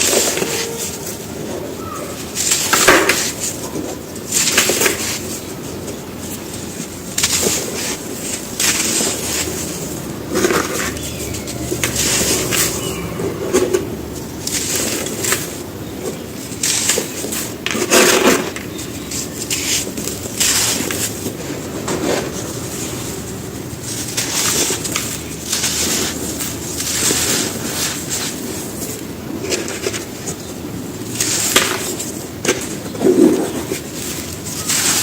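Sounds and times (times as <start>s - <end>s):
gritty crunches of crumbling cement: 0.0s - 35.0s.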